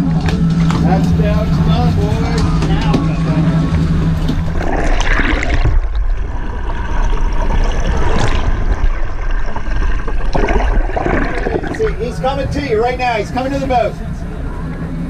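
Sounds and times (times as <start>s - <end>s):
low rumble: 0.0s - 15.0s
underwater rush of water: 0.0s - 15.0s.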